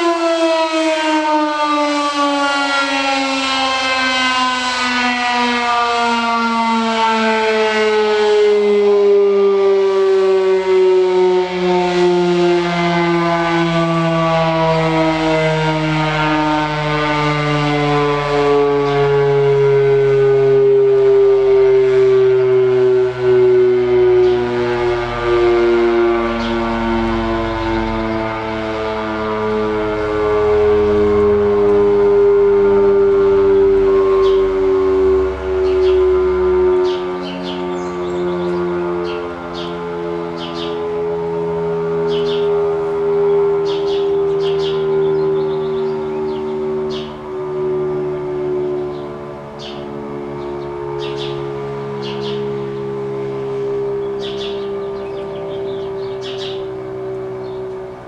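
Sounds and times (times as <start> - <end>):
warning siren steady tone falling pitch: 0.0 - 58.0.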